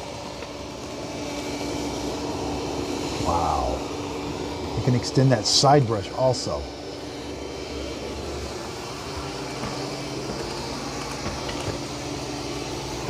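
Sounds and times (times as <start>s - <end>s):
robot vacuum motor whirring: 0.0s - 13.0s.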